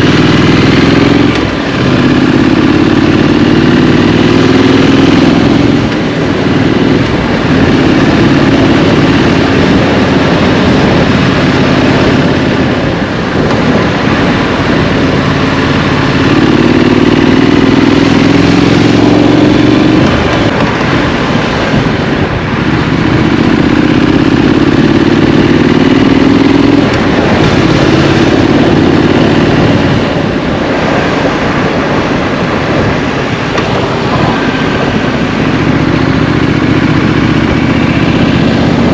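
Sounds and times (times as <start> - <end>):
motorcycle engine accelerating: 0.0 - 38.9
steady rushing noise: 0.0 - 38.9.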